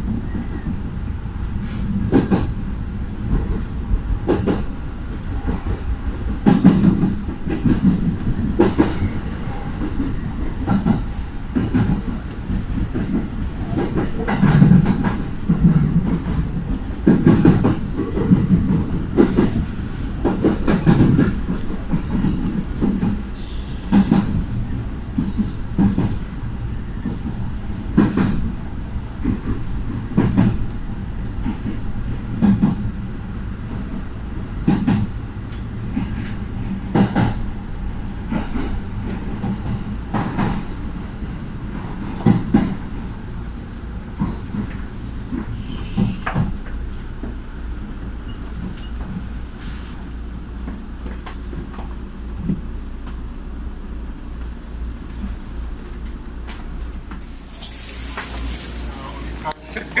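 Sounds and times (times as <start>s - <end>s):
train rumble: 0.0s - 60.0s.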